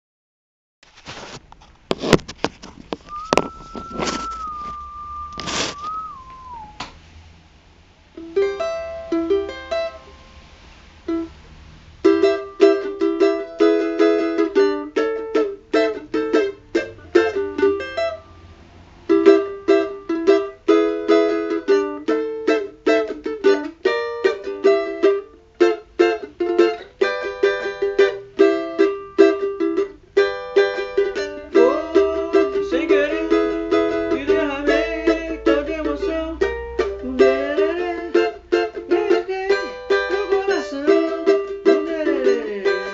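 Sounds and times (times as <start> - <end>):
plucked cavaquinho melody: 2.0 - 6.9, 8.1 - 42.9.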